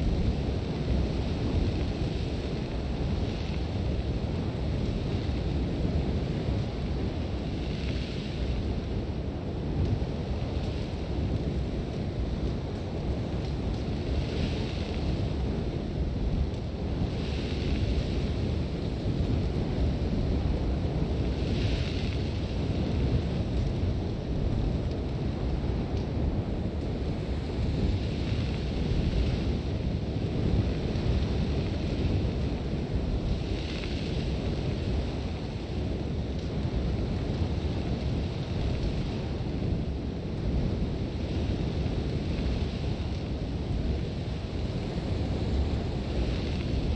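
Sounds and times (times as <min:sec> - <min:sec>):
strong wind rumbling: 0:00.0 - 0:46.9.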